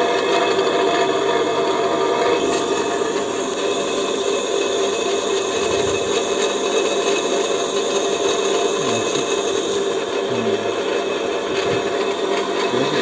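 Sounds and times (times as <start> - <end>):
bench grinder humming and whining: 0.0 - 13.0.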